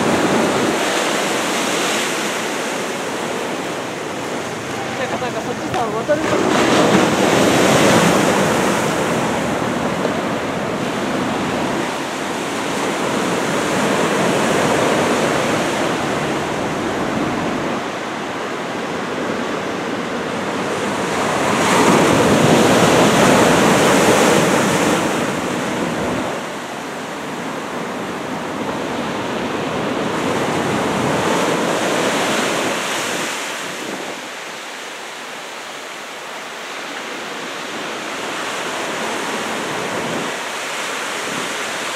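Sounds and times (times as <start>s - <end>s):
wind buffeting microphone: 0.0s - 34.3s
waves breaking on shore: 0.0s - 41.9s.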